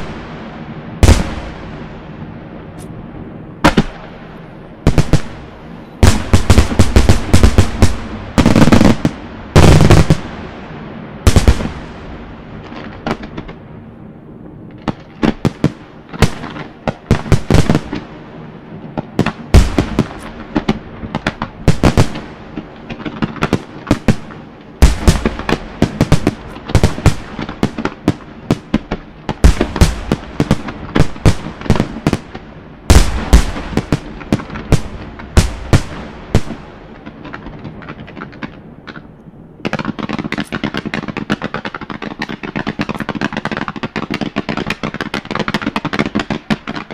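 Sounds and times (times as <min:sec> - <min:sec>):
firework cracks and bangs: 0:00.0 - 0:03.0, 0:03.6 - 0:13.8, 0:14.5 - 0:46.9
firework shells booming: 0:00.0 - 0:03.0, 0:03.6 - 0:13.7, 0:14.7 - 0:18.2, 0:18.8 - 0:46.9.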